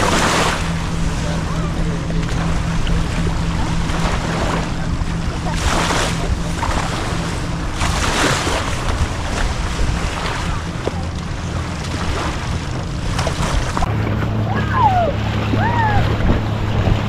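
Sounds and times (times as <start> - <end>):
low engine hum: 0.0 - 17.0
water splashing: 0.0 - 17.0
wind on microphone: 0.0 - 17.0.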